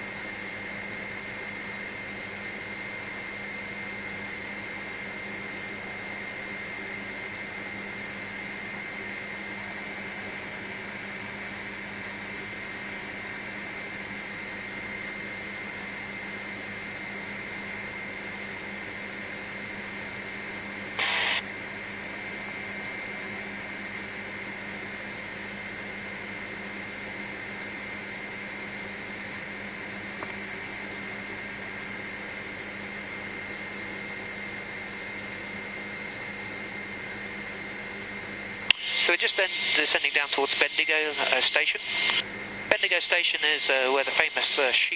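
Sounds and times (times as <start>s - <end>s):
helicopter cabin drone: 0.0s - 44.9s.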